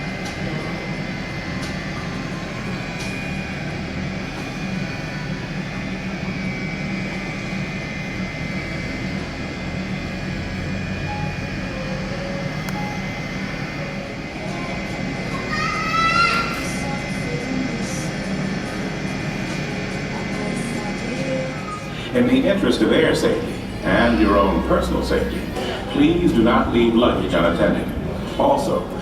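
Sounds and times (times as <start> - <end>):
cabin air supply hum: 0.0 - 29.0
faint high whine: 0.0 - 29.0.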